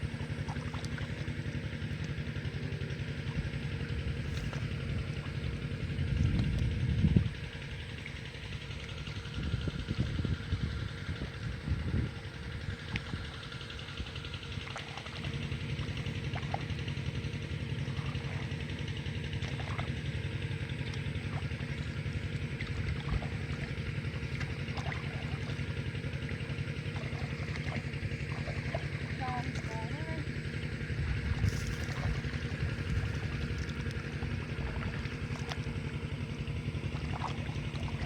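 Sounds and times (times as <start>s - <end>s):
small engine idling: 0.0s - 38.0s.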